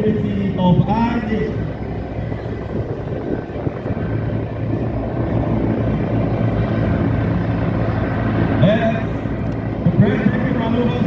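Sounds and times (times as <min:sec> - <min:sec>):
helicopter rotor and engine noise: 0:00.0 - 0:11.0.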